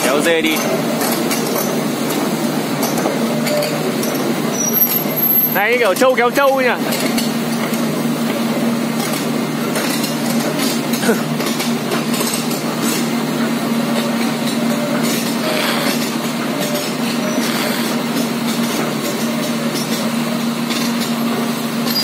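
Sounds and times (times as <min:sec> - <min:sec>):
excavator diesel engine: 0:00.0 - 0:22.0
steel tracks clanking on gravel: 0:00.0 - 0:22.0.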